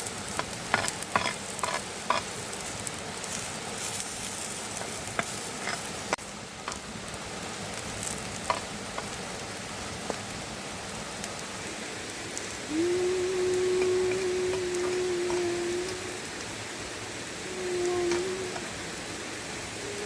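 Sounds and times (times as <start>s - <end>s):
campfire pops and crackles: 0.0s - 12.8s, 13.6s - 17.0s
food sizzling on hot stone: 0.0s - 20.0s.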